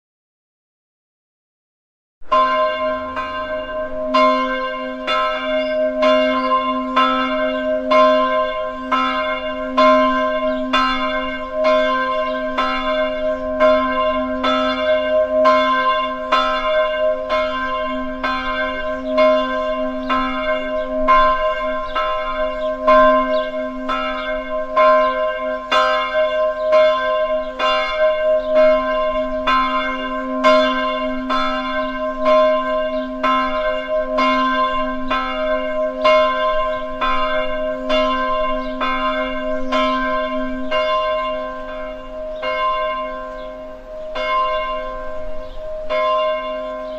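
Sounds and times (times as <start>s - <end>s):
bells ringing: 2.2s - 46.9s.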